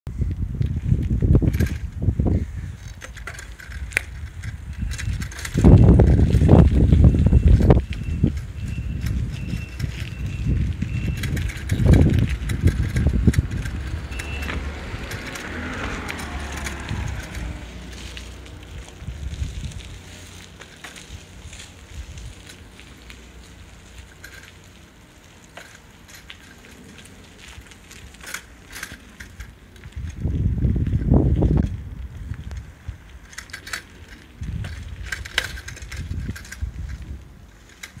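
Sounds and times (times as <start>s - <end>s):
steady low rumble: 0.1s - 38.0s
wind buffeting microphone: 0.1s - 38.0s
light clicks and crunches: 2.7s - 38.0s
footsteps on dirt: 3.4s - 37.2s.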